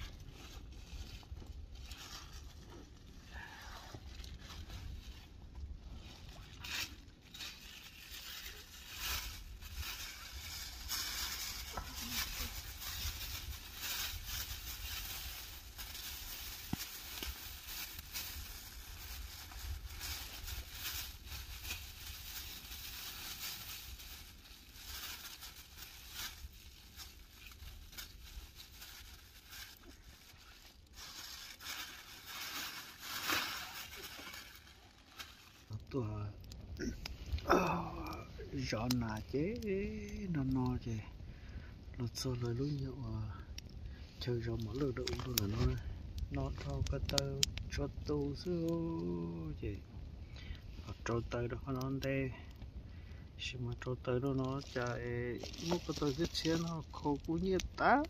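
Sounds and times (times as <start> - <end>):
rustling and crunching: 0.0 - 50.3, 53.7 - 58.0.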